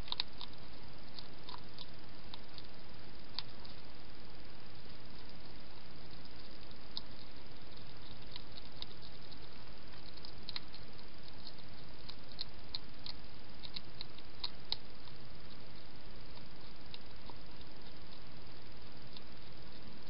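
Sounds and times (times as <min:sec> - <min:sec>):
background hiss: 0:00.0 - 0:20.0
hedgehog eating clicks: 0:00.0 - 0:20.0.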